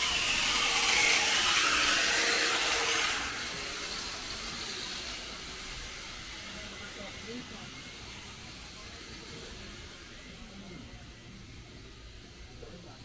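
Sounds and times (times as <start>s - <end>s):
loud hissing rush: 0.0s - 13.0s.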